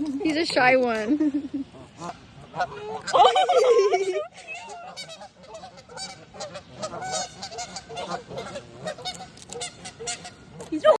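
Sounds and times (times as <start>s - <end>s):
geese honking: 1.7s - 11.0s.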